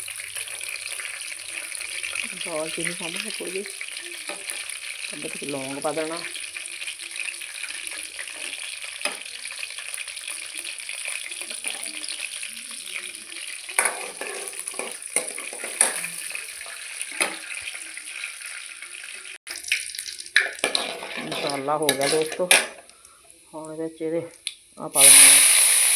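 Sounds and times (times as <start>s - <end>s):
spices sizzling in hot fat: 0.0s - 25.9s.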